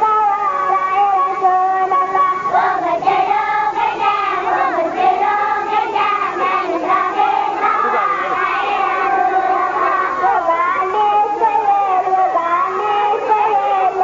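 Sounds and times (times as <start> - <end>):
children singing in unison: 0.4 - 14.0.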